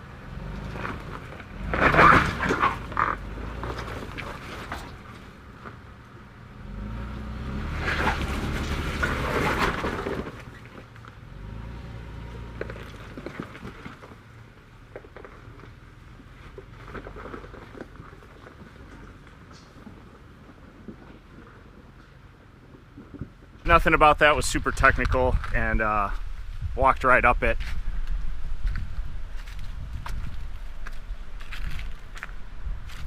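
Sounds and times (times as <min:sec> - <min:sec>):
engine pulling under load: 0:00.0 - 0:26.5.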